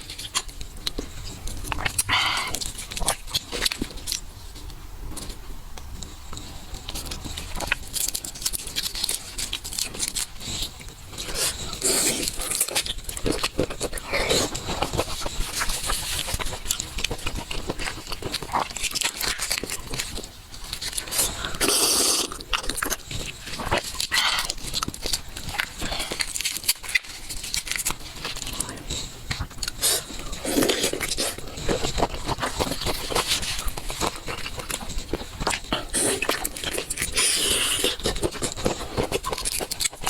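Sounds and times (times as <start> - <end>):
person chewing and biting: 0.0 - 4.3, 6.8 - 40.0.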